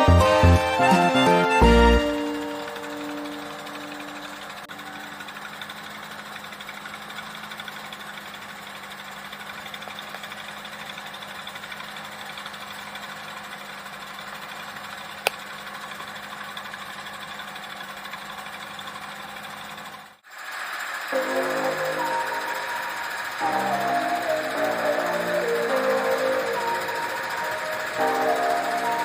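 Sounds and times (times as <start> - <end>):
boat engine humming: 0.0 - 19.9, 21.0 - 29.0.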